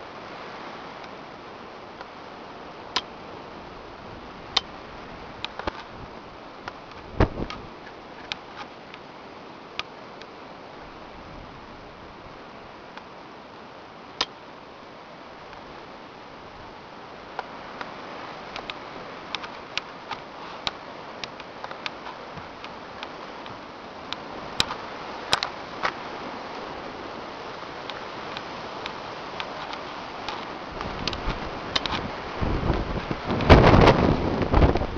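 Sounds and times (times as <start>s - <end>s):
steady outdoor hiss: 0.0s - 34.9s.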